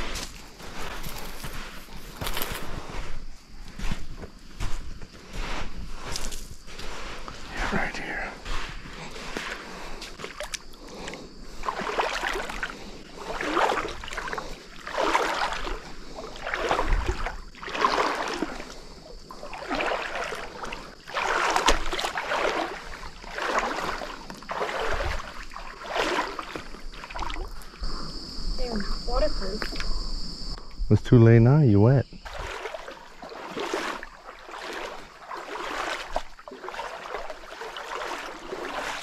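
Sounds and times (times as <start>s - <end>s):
boots splashing through water: 0.0s - 27.8s, 32.2s - 39.0s.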